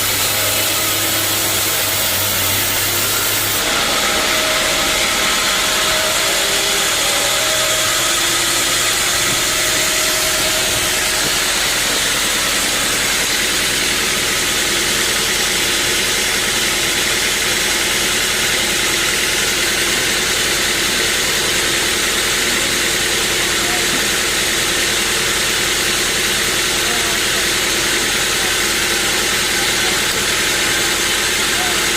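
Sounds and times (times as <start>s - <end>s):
bandsaw sawmill running: 0.0s - 31.9s.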